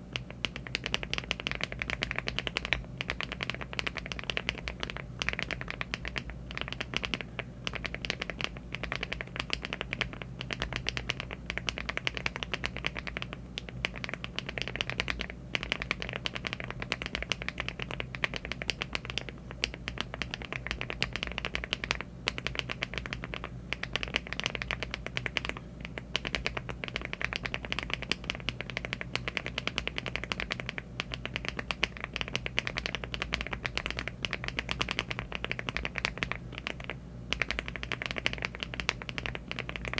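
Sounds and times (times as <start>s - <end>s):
faint low hum: 0.0s - 39.9s
mechanical keyboard typing: 0.2s - 39.9s.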